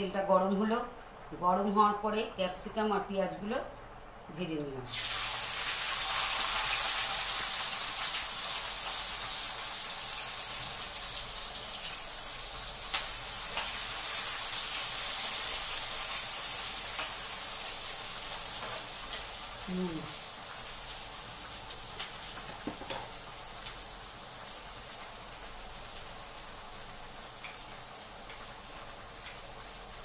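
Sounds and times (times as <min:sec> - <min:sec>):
vegetables sizzling in hot oil: 0:04.9 - 0:30.0.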